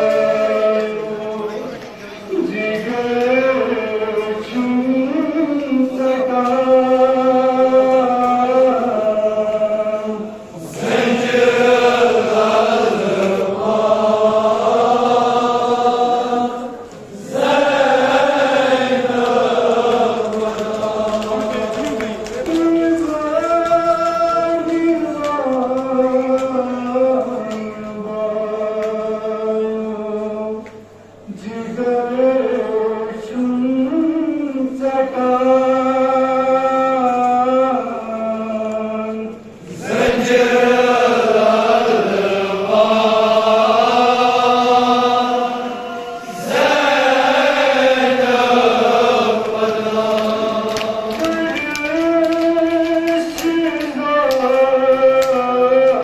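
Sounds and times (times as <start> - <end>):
man singing a lament into a microphone: 0.0 - 16.8, 18.0 - 56.0.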